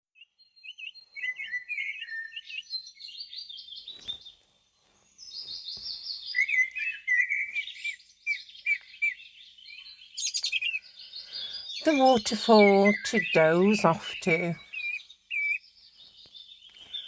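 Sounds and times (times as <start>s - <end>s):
songbirds singing and chirping: 0.2s - 4.4s, 5.1s - 17.0s.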